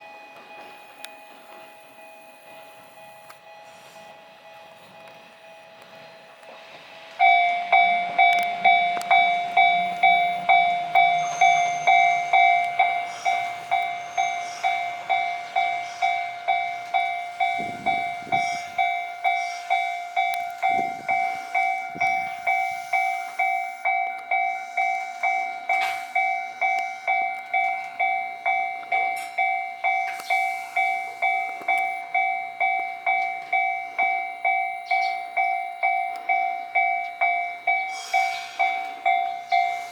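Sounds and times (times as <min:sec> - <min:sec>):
level-crossing alarm bell: 0:00.0 - 0:39.9
tram rumbling: 0:00.0 - 0:39.9.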